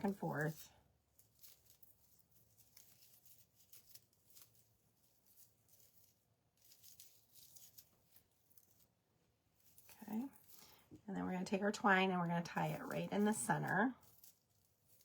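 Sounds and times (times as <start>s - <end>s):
rustling of dry raffia: 0.0s - 15.0s.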